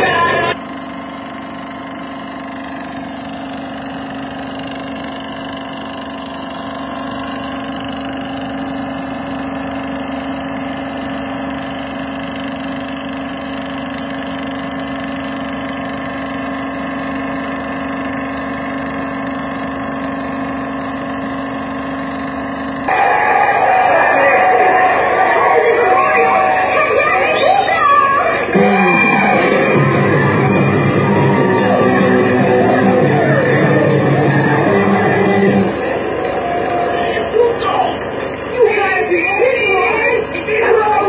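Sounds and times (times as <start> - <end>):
film projector running: 0.0 - 41.0.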